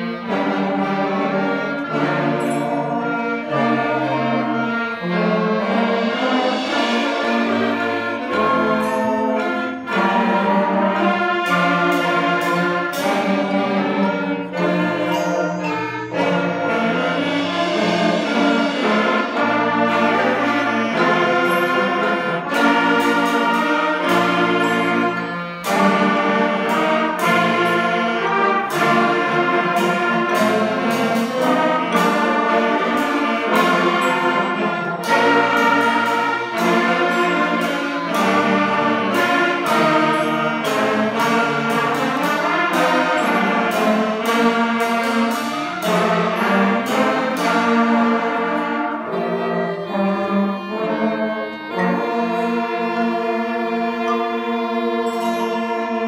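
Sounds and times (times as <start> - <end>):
orchestral music with brass: 0.0 - 56.0.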